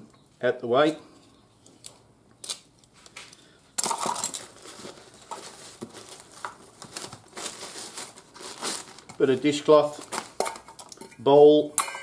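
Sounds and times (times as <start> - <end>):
rustling of cooking gear: 1.6 - 12.0.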